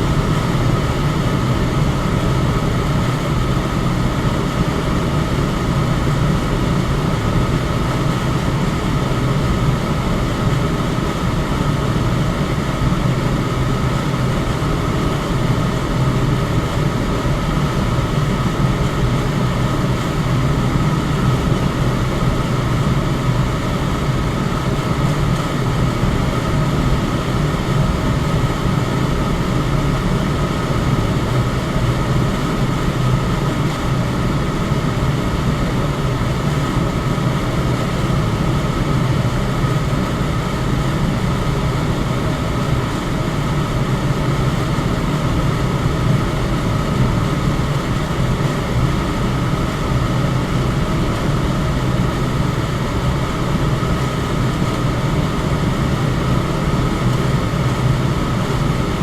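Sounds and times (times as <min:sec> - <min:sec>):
electric fan air rush: 0:00.0 - 0:59.0
faint steady whine: 0:00.0 - 0:59.0.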